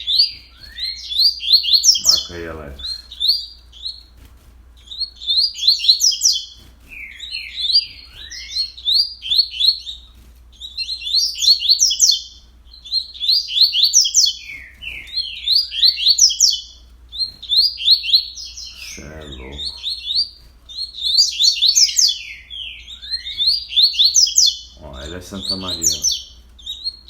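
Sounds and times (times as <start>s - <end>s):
bird singing fast song: 0.0s - 27.0s.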